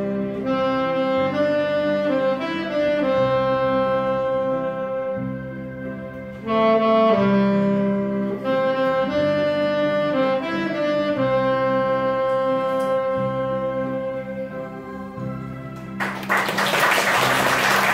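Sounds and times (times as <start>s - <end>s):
saxophone slow melody: 0.0s - 17.9s
sustained lower accompaniment: 0.0s - 17.9s.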